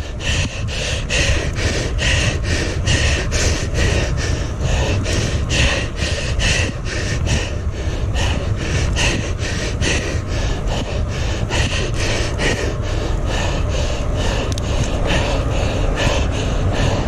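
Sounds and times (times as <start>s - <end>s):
cyclist panting hard: 0.0s - 17.0s
steady low rumble: 0.0s - 17.0s.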